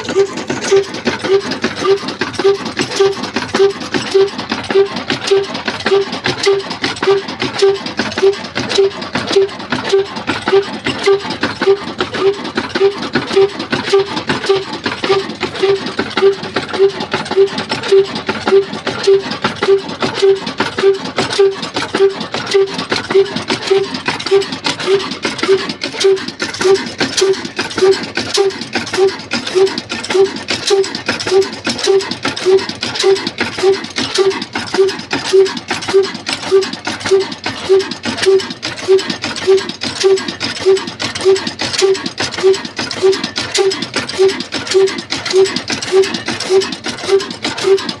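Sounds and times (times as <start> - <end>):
diesel engine slow beat: 0.0 - 48.0
mechanical clicking clatter: 0.0 - 48.0.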